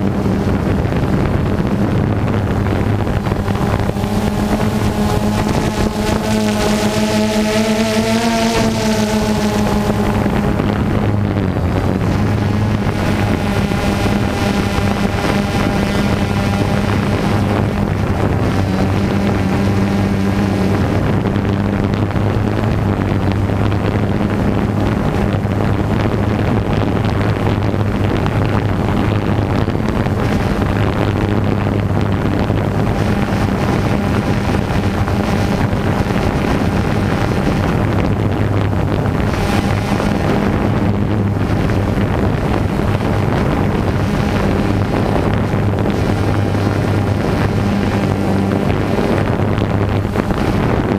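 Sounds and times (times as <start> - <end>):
drone propellers buzzing: 0.0 - 50.9
wind noise on microphone: 0.0 - 50.9.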